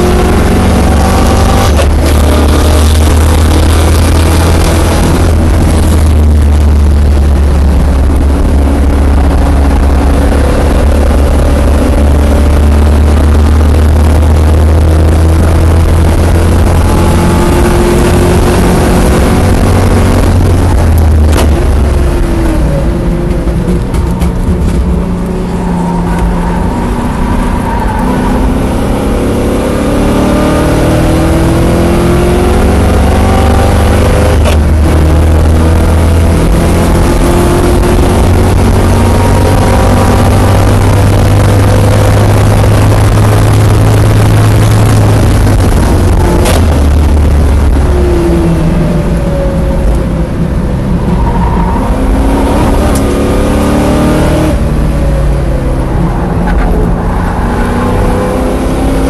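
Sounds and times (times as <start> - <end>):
car engine at full throttle: 0.0 - 59.0.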